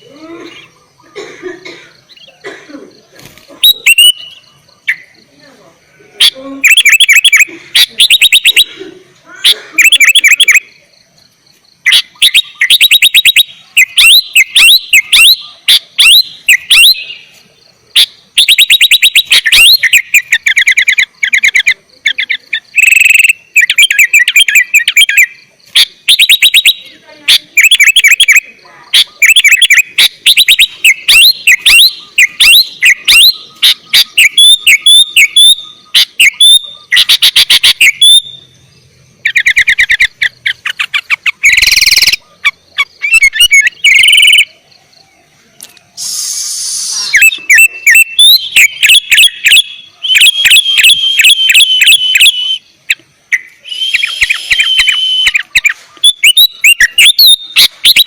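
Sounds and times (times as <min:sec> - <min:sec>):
bird singing chirps and whistles: 0:02.1 - 0:02.5, 0:03.6 - 0:05.2, 0:06.2 - 0:08.8, 0:09.8 - 0:10.9, 0:11.8 - 0:17.4, 0:18.0 - 0:38.6, 0:39.3 - 0:44.6, 0:46.0 - 0:58.0
harsh rasping bird call: 0:03.3 - 0:05.2, 0:06.1 - 0:10.8, 0:11.8 - 0:38.6, 0:39.2 - 0:44.6, 0:45.9 - 0:58.0.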